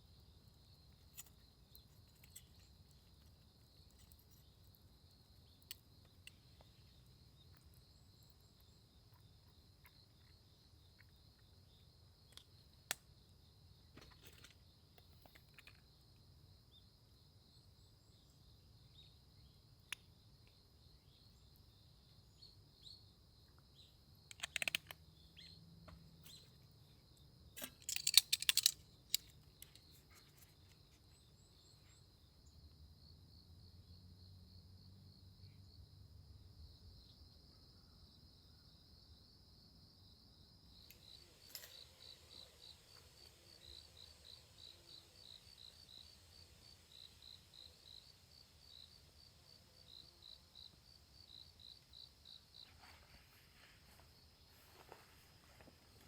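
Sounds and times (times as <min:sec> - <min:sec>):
insects trilling: 0:00.0 - 0:35.9, 0:40.1 - 0:56.0
insect chirps: 0:00.0 - 0:56.0.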